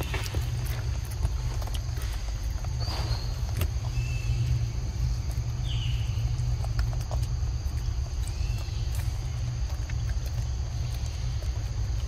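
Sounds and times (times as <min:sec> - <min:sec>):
steady high hum: 0:00.0 - 0:12.0
steady low rumble: 0:00.0 - 0:12.0.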